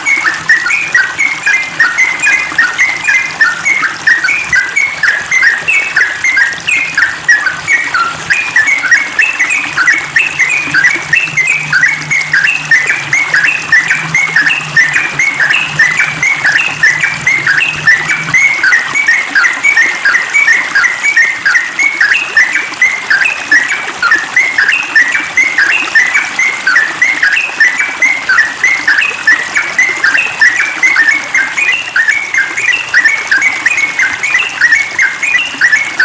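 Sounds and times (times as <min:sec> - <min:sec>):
bulbul chattering song: 0:00.0 - 0:36.0.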